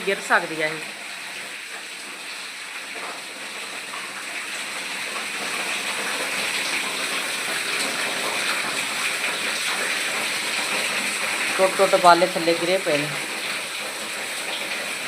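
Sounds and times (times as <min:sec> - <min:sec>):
rainwater gushing through roof: 0:00.0 - 0:15.0.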